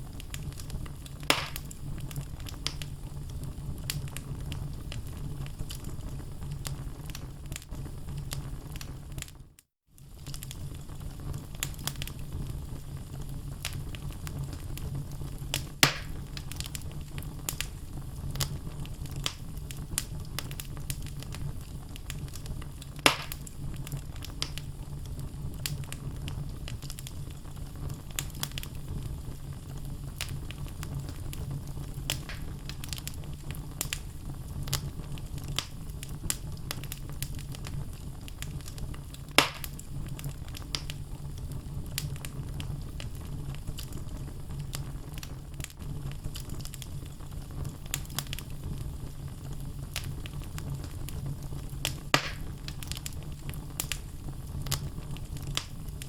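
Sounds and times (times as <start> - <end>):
sharp fire pops: 0.0 - 9.4, 10.0 - 56.0
logs crackling in fireplace: 0.0 - 56.0.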